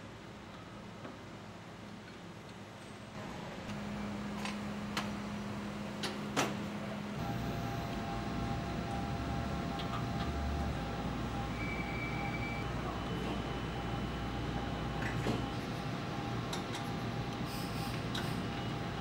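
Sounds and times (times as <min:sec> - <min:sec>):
machine drone with faint tones: 0:03.2 - 0:19.0
machinery humming: 0:03.2 - 0:19.0.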